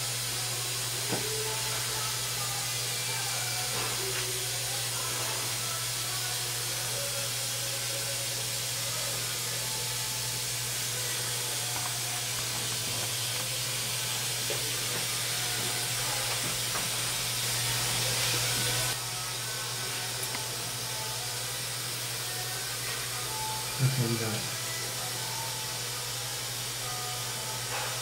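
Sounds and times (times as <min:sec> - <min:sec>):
dental suction hissing: 0:01.1 - 0:23.6.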